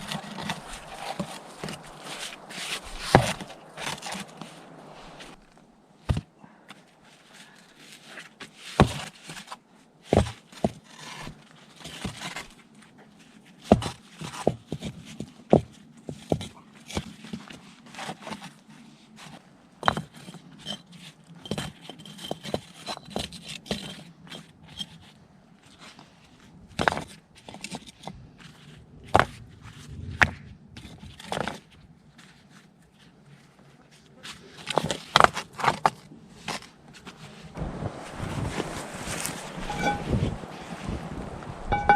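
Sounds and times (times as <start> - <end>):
knocks and scrapes of handling: 0.0 - 12.6, 13.4 - 41.0.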